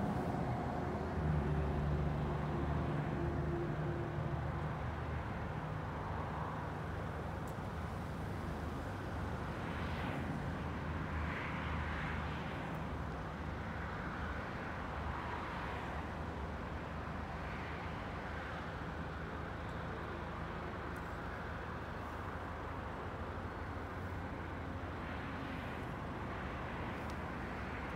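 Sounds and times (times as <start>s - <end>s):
vehicles passing: 0.0s - 27.9s.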